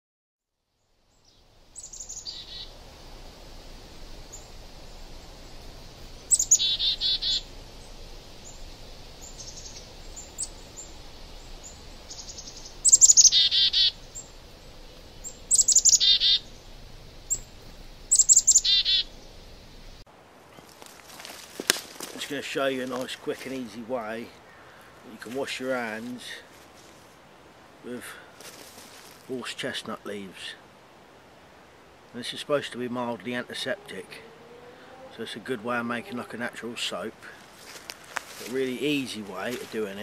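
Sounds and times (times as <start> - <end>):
faint background hiss: 0.5 - 40.0
songbird singing: 0.6 - 40.0.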